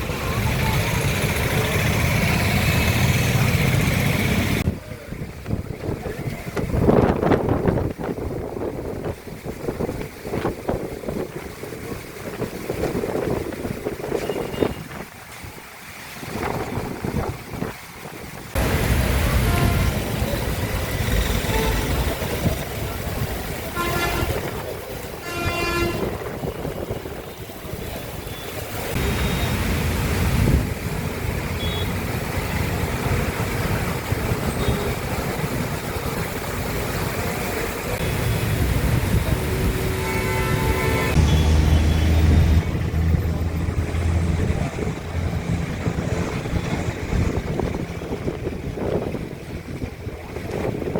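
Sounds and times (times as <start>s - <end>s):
wind buffeting microphone: 0.0s - 29.0s, 29.6s - 50.9s
heavy rain: 0.0s - 50.9s
vehicles passing: 0.0s - 50.9s.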